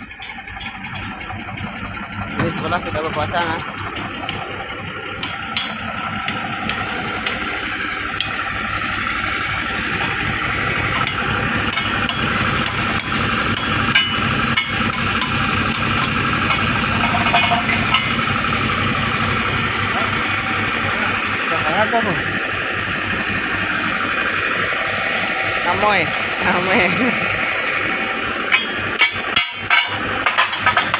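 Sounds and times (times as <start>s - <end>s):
engine running: 0.0s - 30.9s.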